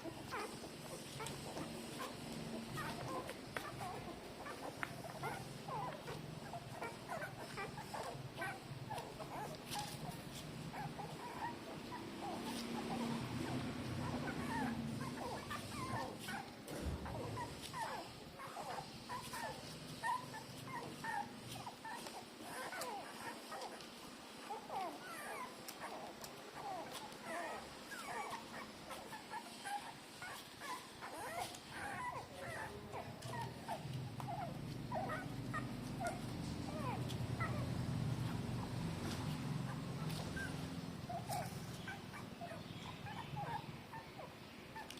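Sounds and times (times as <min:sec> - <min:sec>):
puppies squeaking and whimpering: 0:00.0 - 0:44.9.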